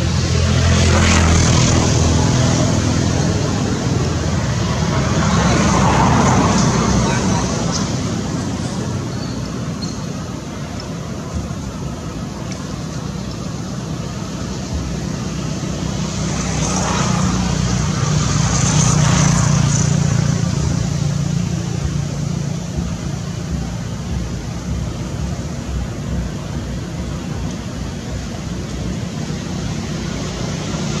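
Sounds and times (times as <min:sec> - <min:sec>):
passing motor traffic: 0:00.0 - 0:31.0.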